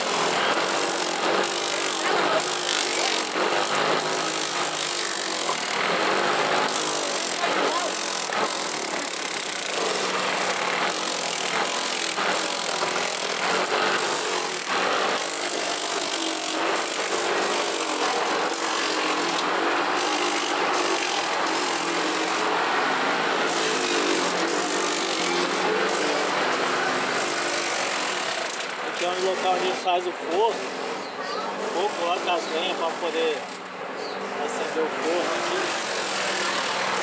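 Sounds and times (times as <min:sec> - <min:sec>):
grater grinding with high whine: 0:00.0 - 0:30.4, 0:34.4 - 0:37.0.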